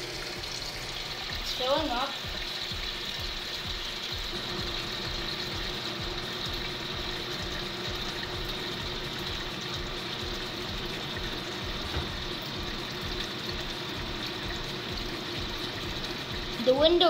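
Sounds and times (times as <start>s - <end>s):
water pouring into tub: 0.0s - 17.0s.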